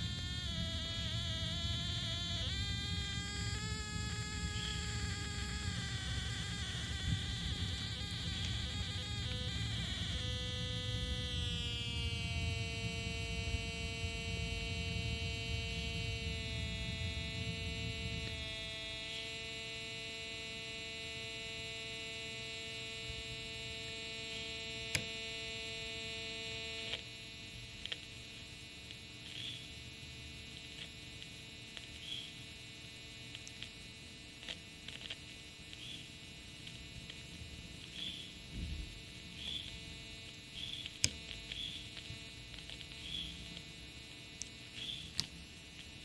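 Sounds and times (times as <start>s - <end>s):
metal detector steady tone: 0.0s - 29.8s, 30.4s - 46.0s
faint high chirps and ticks: 0.0s - 46.0s.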